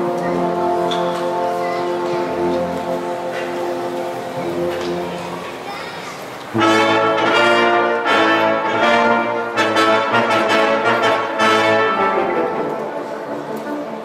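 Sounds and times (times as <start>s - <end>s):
wind band playing: 0.0s - 5.7s, 6.4s - 14.0s.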